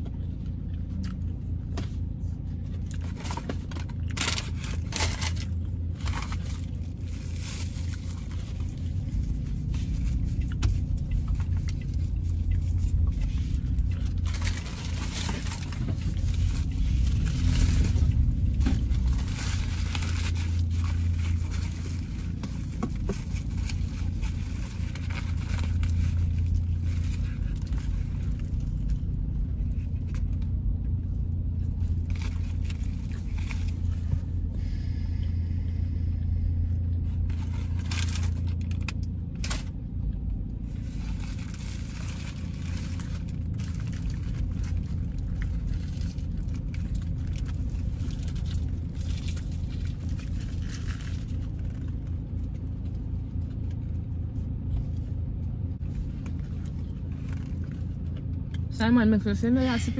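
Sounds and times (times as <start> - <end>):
car road rumble: 0.0 - 59.9
paper and foil crinkling: 2.9 - 30.6, 31.6 - 34.4, 37.0 - 39.7, 40.7 - 54.9, 55.8 - 58.3.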